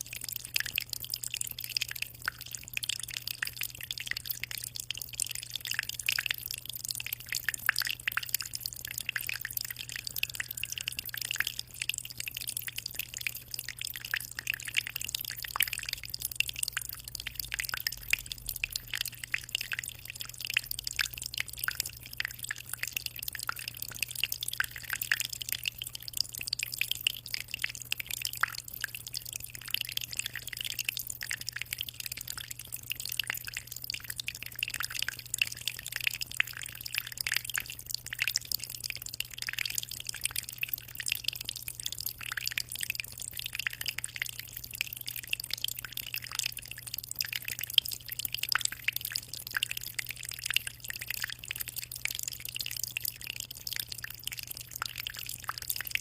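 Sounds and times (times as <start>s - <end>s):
low steady hum: 0.0s - 56.0s
water dripping and splashing: 0.0s - 56.0s.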